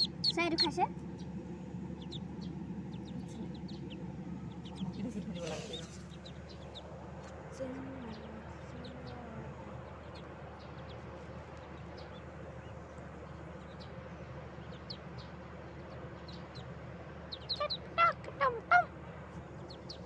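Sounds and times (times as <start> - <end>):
ducklings peeping: 0.0 - 20.0.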